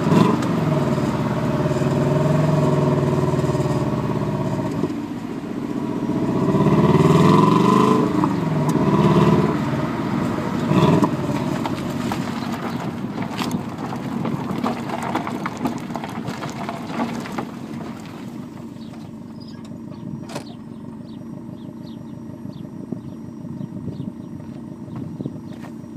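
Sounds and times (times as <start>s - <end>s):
car engine revving and idling: 0.0s - 25.9s.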